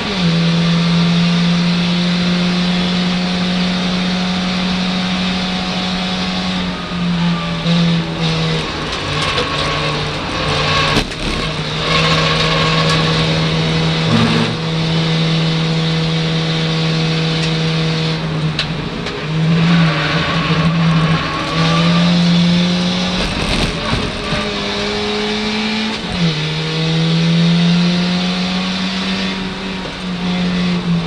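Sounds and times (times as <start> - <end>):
race car engine running hard: 0.0 - 31.0
road and wind noise: 0.0 - 31.0.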